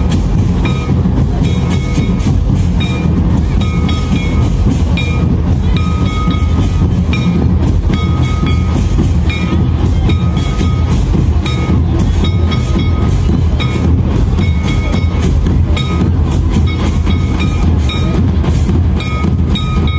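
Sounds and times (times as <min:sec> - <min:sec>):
large drum beaten in rhythm: 0:00.0 - 0:19.9.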